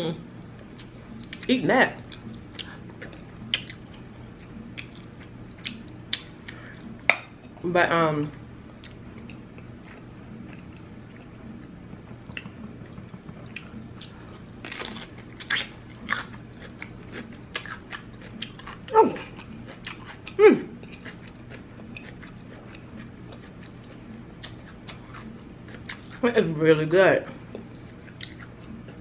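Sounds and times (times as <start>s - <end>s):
chewing crunchy cucumber: 0.6s - 7.1s, 8.8s - 26.3s, 27.2s - 29.0s.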